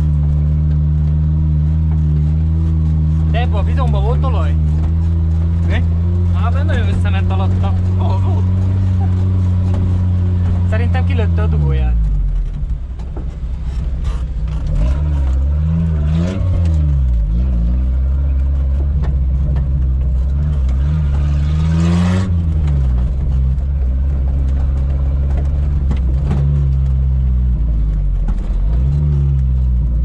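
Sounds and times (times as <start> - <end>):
engine revving: 0.0 - 12.8, 13.5 - 30.0.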